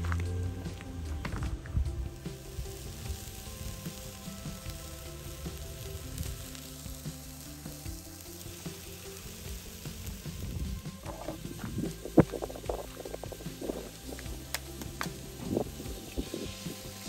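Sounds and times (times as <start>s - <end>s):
bacon and sausages sizzling: 0.0s - 17.0s.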